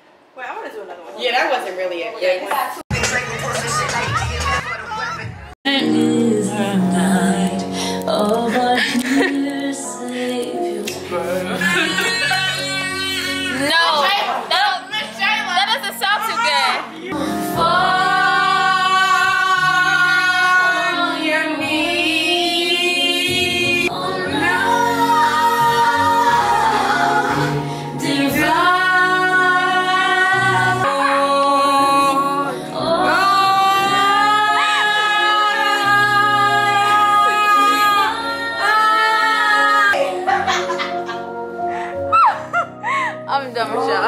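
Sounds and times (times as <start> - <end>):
music: 2.9 - 44.0.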